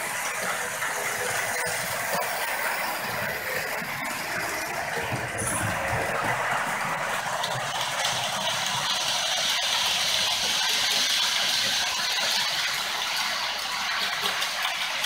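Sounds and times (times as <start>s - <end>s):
model train wheels rattling on rails: 0.0s - 15.0s.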